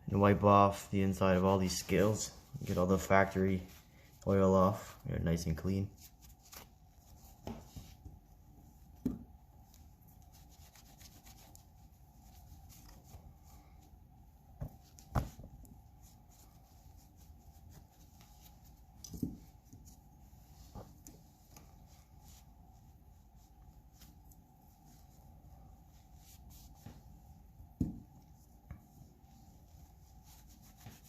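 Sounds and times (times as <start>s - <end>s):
cloth rag rubbing: 0.2s - 31.0s.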